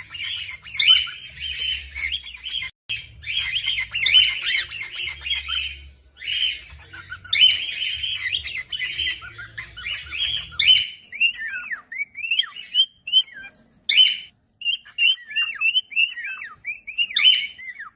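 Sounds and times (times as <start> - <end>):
cockatiel scratchy calls: 0.0 - 17.9
cockatiel whistling: 0.0 - 17.9.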